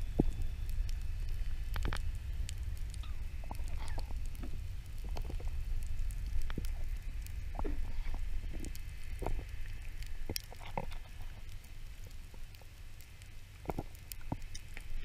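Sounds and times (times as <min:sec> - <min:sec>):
underwater clicks and crackles: 0:00.0 - 0:15.0
underwater rumble of moving water: 0:00.0 - 0:15.0.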